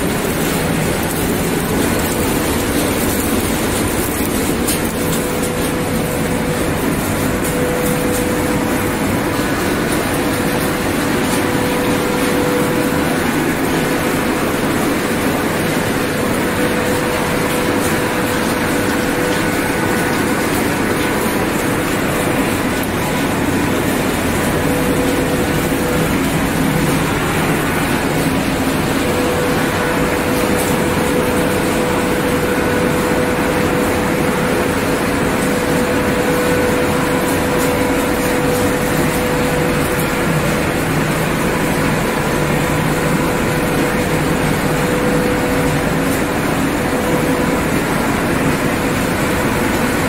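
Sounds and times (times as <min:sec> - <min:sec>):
crushing machinery running: 0:00.0 - 0:50.0.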